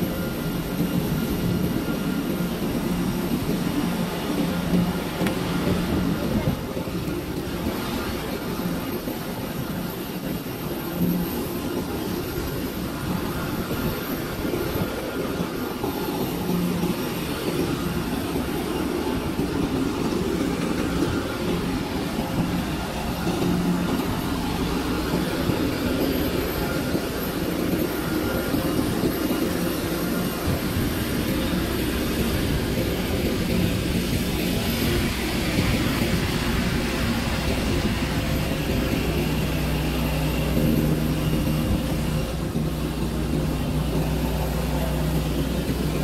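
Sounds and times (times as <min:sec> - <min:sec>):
aircraft engine drone: 0:00.0 - 0:46.0.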